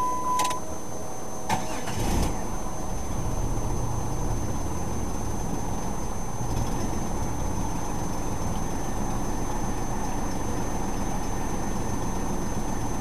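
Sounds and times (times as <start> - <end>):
car engine idling: 1.5 - 13.0.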